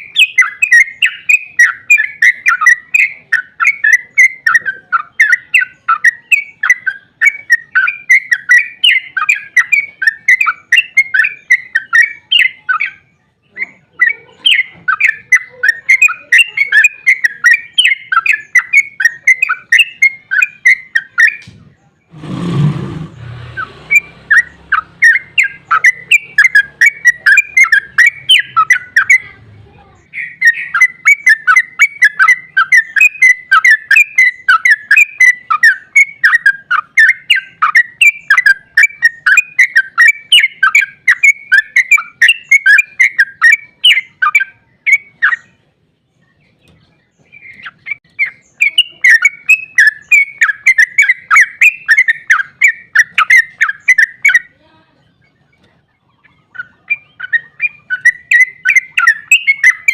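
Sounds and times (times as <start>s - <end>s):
bulbul chattering song: 0.0s - 59.9s.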